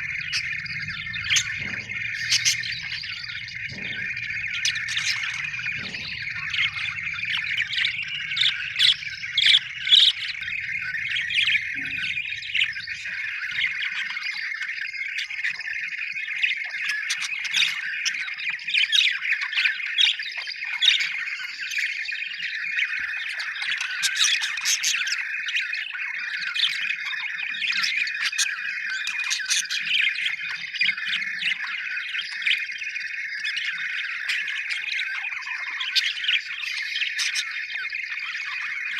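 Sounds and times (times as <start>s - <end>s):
budgies chattering and warbling: 0.0s - 38.9s
sharp bird chirps: 0.0s - 38.9s.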